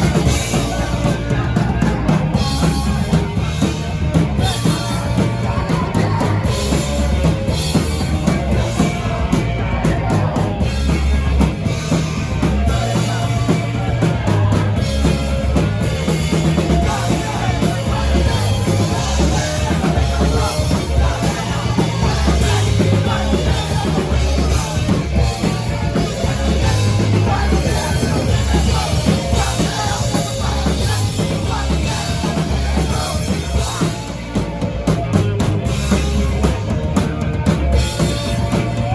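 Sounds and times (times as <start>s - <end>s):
drum kit: 0.0s - 38.9s
heavy bass notes: 0.0s - 38.9s
rock band playing live: 0.0s - 38.9s.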